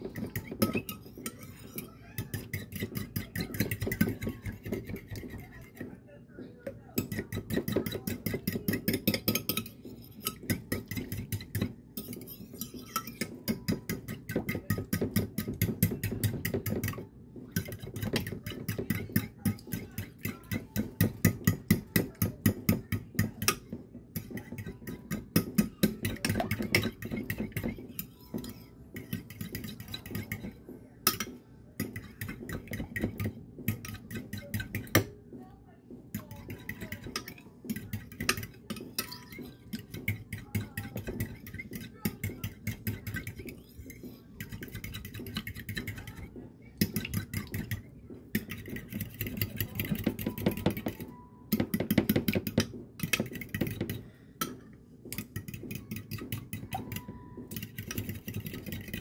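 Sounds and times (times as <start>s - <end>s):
utensil clinking beating eggs: 0.0s - 59.0s.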